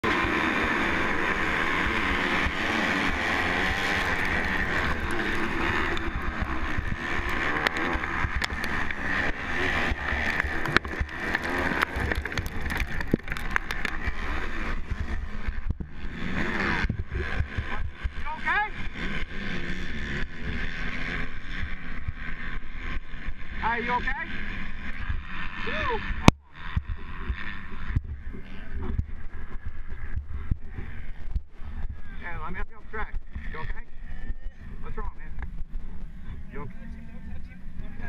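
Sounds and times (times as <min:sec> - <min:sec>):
wind on microphone: 0:00.0 - 0:18.7, 0:24.7 - 0:36.8
motocross bikes revving: 0:00.0 - 0:38.0.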